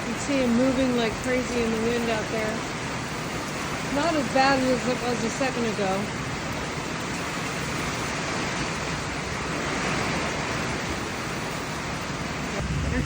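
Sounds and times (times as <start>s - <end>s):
wind buffeting microphone: 0.0s - 13.0s
wind rushing through trees: 0.0s - 13.0s.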